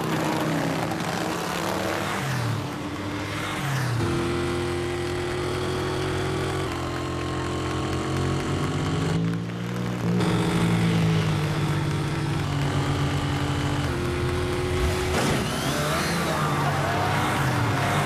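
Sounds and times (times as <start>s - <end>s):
riding lawn mower engines: 0.0s - 18.0s.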